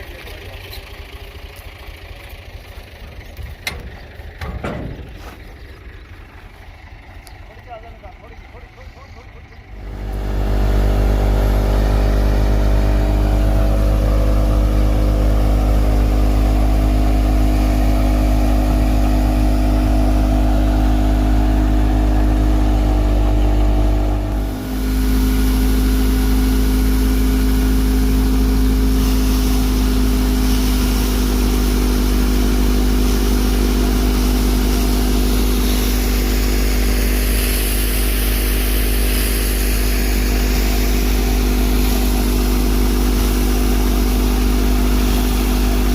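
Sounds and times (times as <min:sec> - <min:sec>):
thresher drum running: 0:00.0 - 0:07.5, 0:09.7 - 0:45.9
tractor engine drone: 0:00.0 - 0:45.9.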